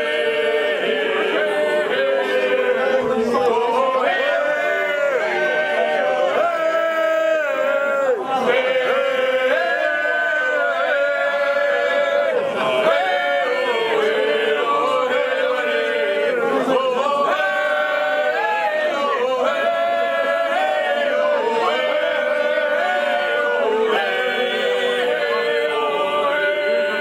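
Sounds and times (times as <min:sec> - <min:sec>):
male quartet singing a cappella: 0:00.0 - 0:27.0.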